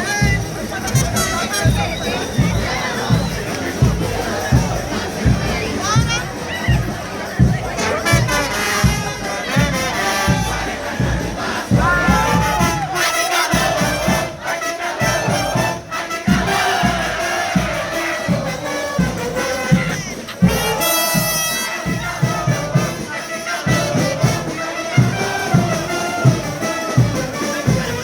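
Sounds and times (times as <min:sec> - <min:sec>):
brass band and drums playing: 0:00.0 - 0:28.0
crowd singing and shouting: 0:00.0 - 0:28.0.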